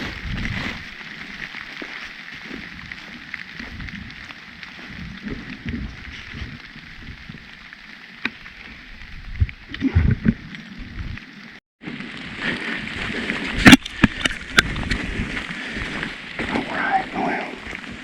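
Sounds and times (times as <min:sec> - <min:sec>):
footsteps in wet leaves and mud: 0:00.0 - 0:09.2, 0:11.2 - 0:18.0
rain falling on woods: 0:00.0 - 0:18.0.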